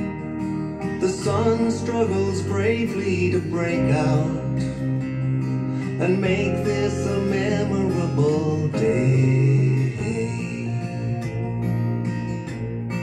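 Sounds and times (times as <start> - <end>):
acoustic guitar song: 0.0 - 13.0.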